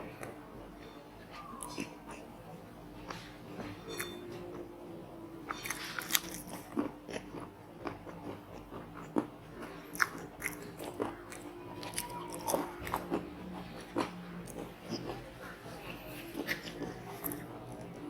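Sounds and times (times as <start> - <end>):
chewing and crunching food: 0.0 - 18.0.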